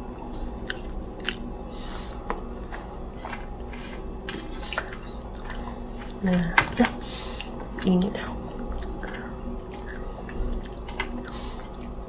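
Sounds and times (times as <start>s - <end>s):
low appliance hum: 0.0s - 12.0s
person chewing crispy food: 0.2s - 12.0s.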